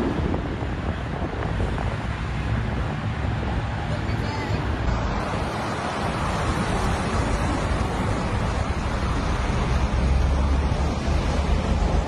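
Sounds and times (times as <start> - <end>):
car road noise: 0.0 - 12.0
highway traffic: 0.0 - 12.0
wind noise: 0.0 - 12.0.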